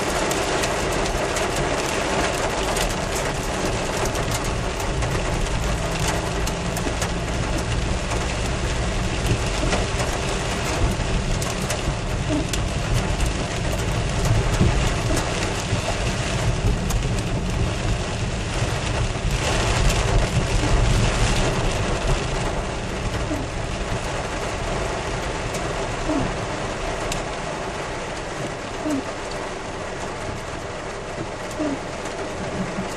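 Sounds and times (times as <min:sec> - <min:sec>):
engine and tyres rumbling: 0:00.0 - 0:32.9
heavy rain pelting a vehicle: 0:00.0 - 0:32.9.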